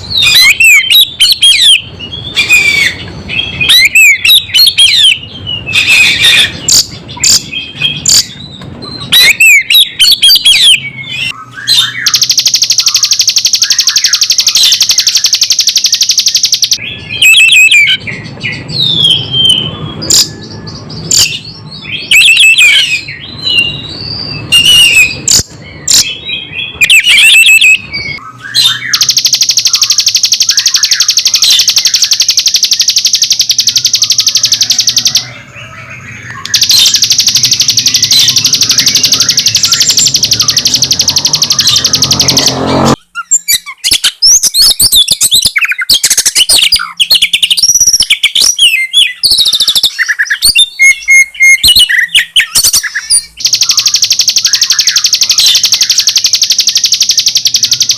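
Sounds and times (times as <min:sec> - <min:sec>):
bird chattering rapidly: 0:00.0 - 0:57.9
bird whistling varied phrases: 0:00.1 - 0:06.8, 0:09.0 - 0:18.0, 0:21.9 - 0:57.9.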